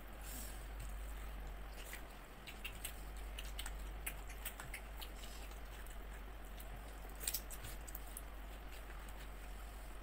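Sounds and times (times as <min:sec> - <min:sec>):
low steady hum: 0:00.0 - 0:10.0
people eating with hands: 0:00.0 - 0:10.0
chewing: 0:00.7 - 0:09.6.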